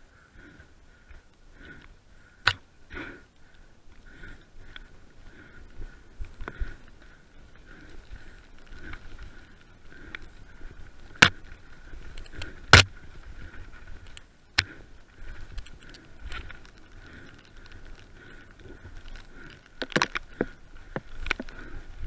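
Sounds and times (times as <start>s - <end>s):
mountain bike rattling: 0.3s - 22.0s.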